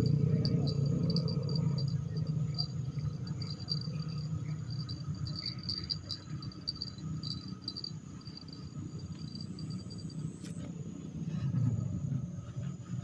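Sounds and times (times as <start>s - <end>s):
insects chirping trills: 0.0s - 11.2s
steady low rumble: 0.0s - 12.8s.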